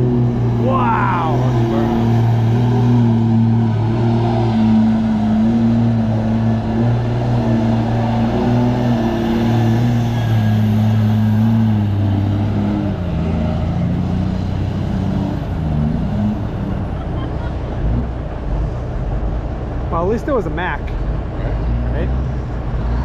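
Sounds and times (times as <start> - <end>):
diesel trucks driving: 0.0 - 23.0.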